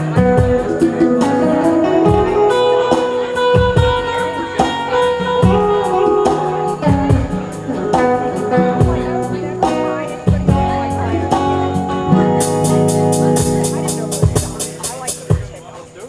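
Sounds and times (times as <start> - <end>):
bass line: 0.0 - 15.6
drum beat: 0.0 - 16.0
guitar: 0.0 - 16.0.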